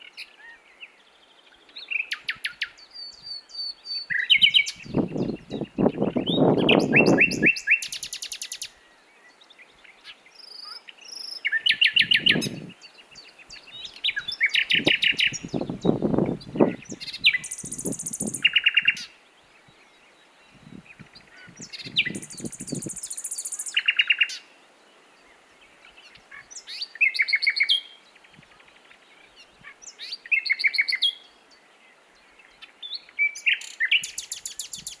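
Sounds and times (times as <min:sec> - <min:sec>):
nightingale singing: 0:00.0 - 0:35.0.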